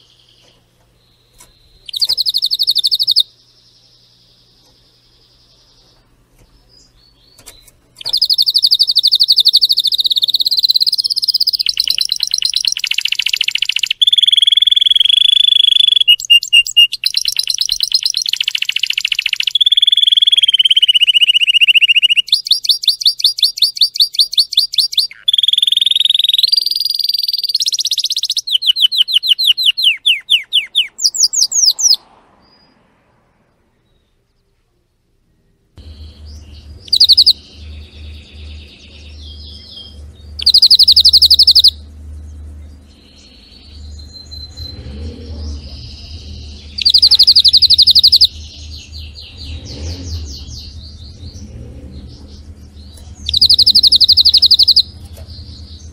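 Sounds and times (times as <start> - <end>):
canary singing trills: 0.0 - 32.8, 35.8 - 55.9.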